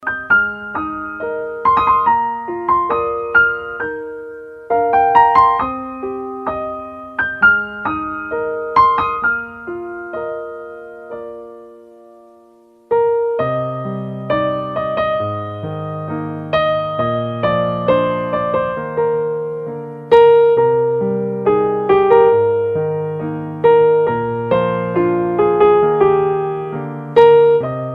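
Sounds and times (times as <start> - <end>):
calm ambient piano music: 0.0 - 27.9.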